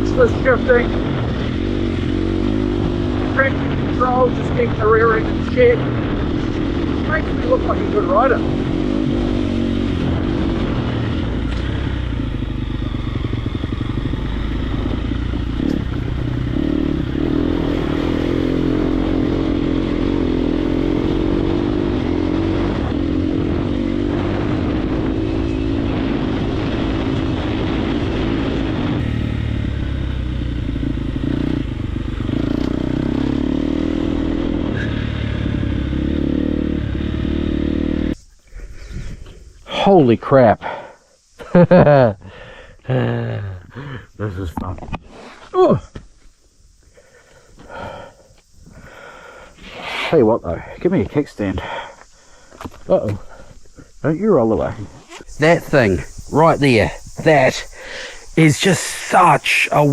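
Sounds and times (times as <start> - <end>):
dirt bike engine running hard: 0.0 - 44.4, 45.4 - 59.9.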